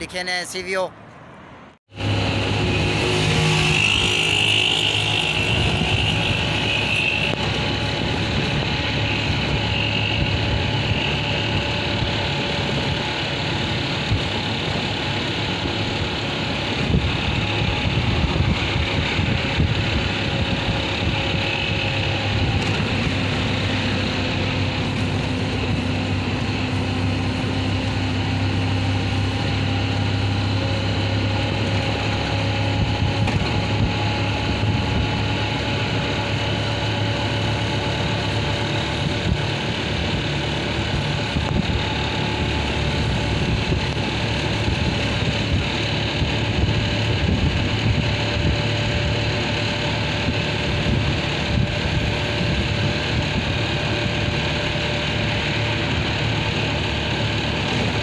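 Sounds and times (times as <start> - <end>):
road noise: 0.0 - 58.0
small engine droning: 1.8 - 58.0.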